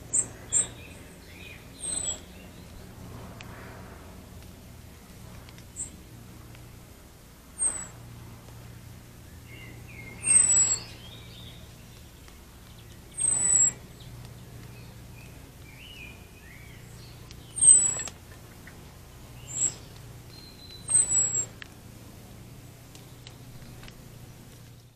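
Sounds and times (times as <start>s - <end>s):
faint bird twittering: 0.0s - 4.3s, 5.0s - 6.8s, 7.6s - 21.8s
harsh bird calls: 0.0s - 4.3s, 4.9s - 6.2s, 7.5s - 24.9s
low steady hum: 0.0s - 24.9s.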